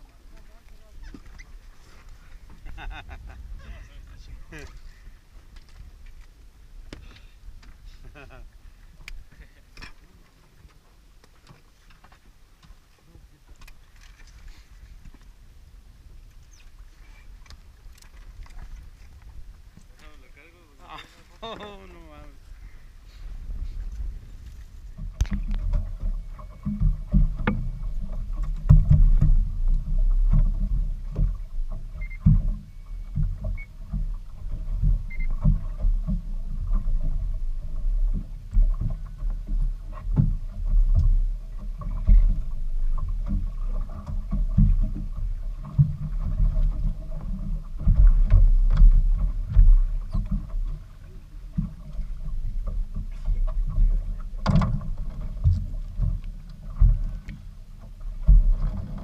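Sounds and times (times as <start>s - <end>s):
boat motor and water rumble: 0.0s - 59.0s.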